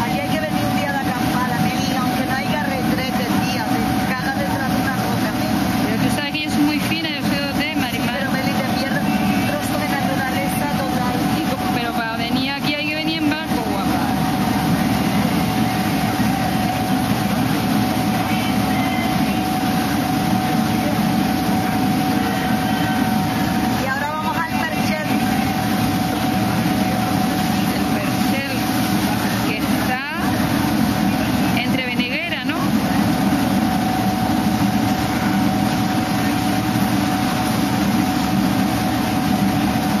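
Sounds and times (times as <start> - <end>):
boat engine rumble: 0.0 - 40.0
thin whine: 0.0 - 40.0.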